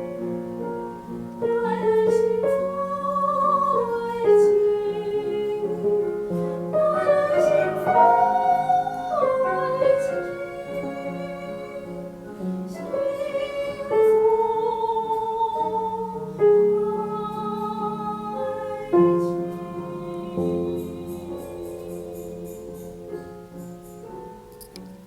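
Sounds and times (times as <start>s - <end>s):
piano accompaniment: 0.0s - 25.0s
woman singing operatically: 1.5s - 22.5s.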